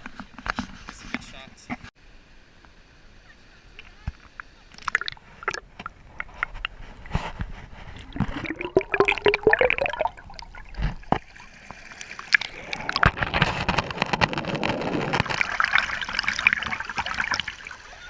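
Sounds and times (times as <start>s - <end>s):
muffled river water splashing: 2.0s - 18.0s.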